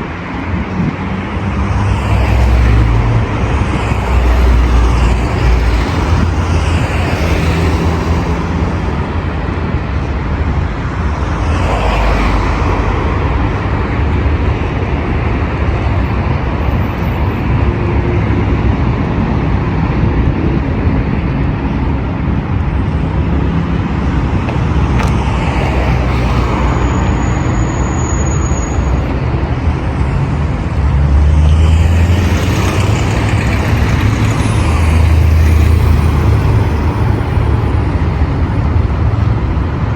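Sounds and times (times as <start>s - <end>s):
cars passing: 0.0s - 39.9s.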